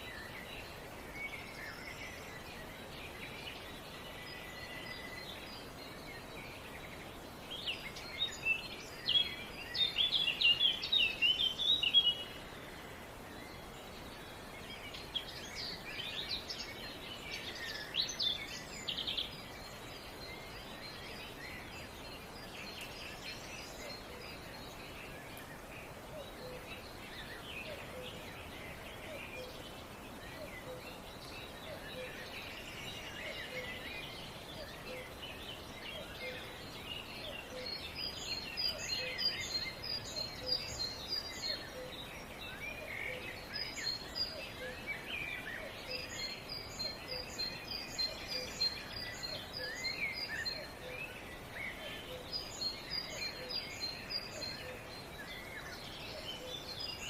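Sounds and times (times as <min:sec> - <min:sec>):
songbirds chirping: 0:00.0 - 0:57.0
steady background hiss: 0:00.0 - 0:57.0.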